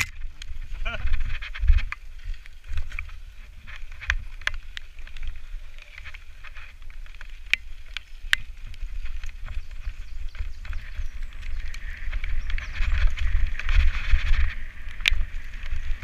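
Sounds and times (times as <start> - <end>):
tyres crunching over stones: 0.0 - 16.0
wind rumble on microphone: 0.0 - 16.0.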